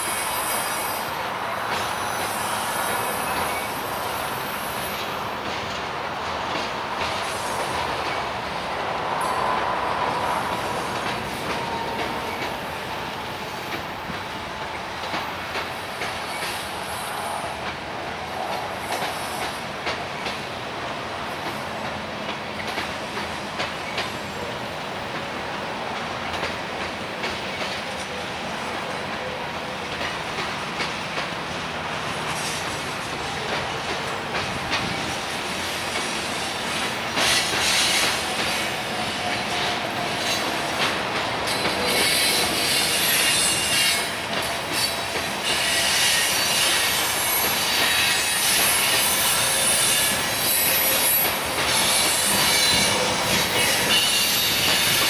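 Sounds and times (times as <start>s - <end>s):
train wheels clicking over rail joints: 4.8s - 17.8s, 18.4s - 20.6s, 21.3s - 55.0s.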